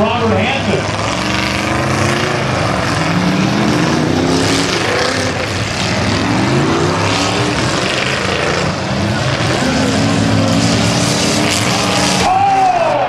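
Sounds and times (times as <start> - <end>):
car engines revving hard: 0.0 - 13.0
exhaust noise: 0.0 - 13.0.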